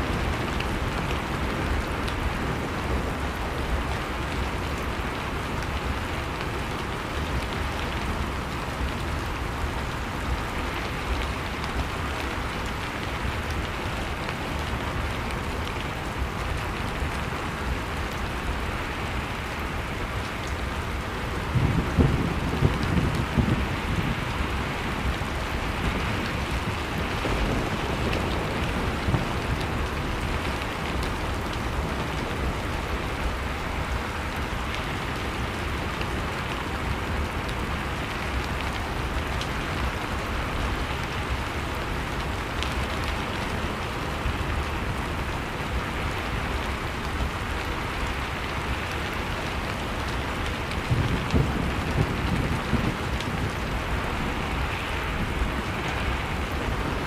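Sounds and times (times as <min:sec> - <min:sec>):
howling blizzard wind: 0:00.0 - 0:57.0.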